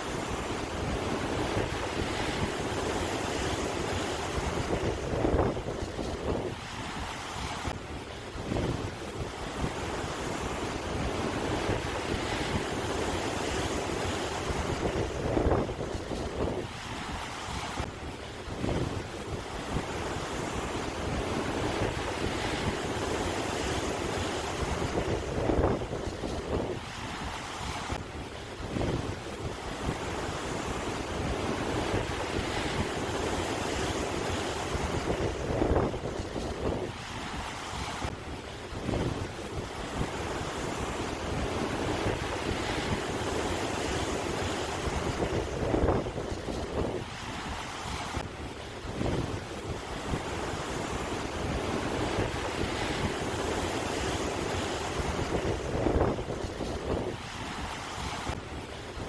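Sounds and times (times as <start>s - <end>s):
sea waves breaking on shore: 0.0s - 59.0s
wind buffeting microphone: 0.0s - 59.0s.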